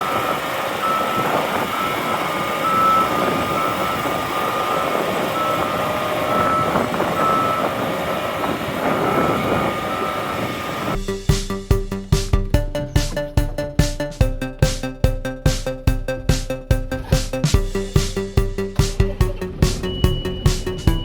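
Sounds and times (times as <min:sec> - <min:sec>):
heavy farm machinery running: 0:00.0 - 0:15.2, 0:16.2 - 0:21.0
high-pitched warning beep: 0:00.8 - 0:08.0, 0:09.0 - 0:15.3, 0:16.0 - 0:21.0.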